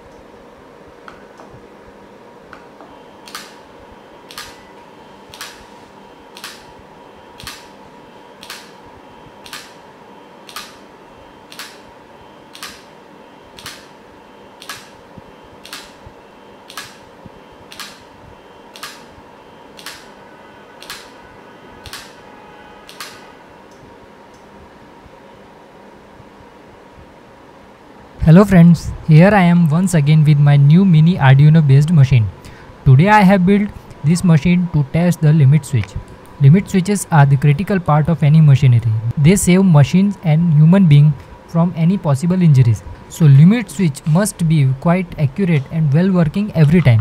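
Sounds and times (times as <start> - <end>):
faint motor whine: 0.0 - 47.0.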